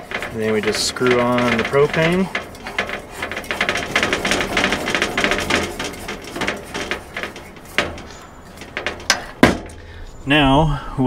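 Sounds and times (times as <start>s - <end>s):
metal threads scraping and clicking: 0.0s - 10.4s.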